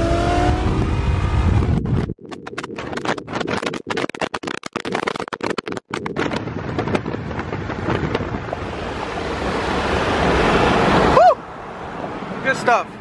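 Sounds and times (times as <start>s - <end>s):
wind buffeting microphone: 0.0s - 12.2s
road noise: 0.0s - 13.0s.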